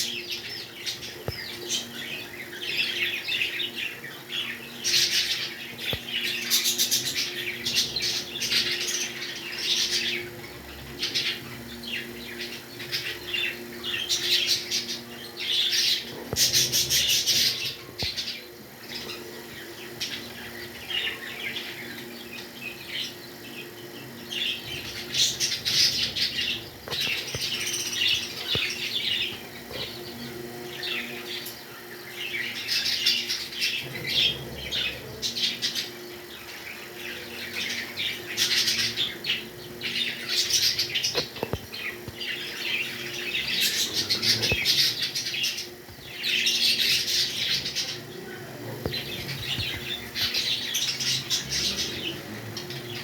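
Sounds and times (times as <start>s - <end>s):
parrots chirping and squawking: 0.0s - 23.7s, 24.3s - 53.0s.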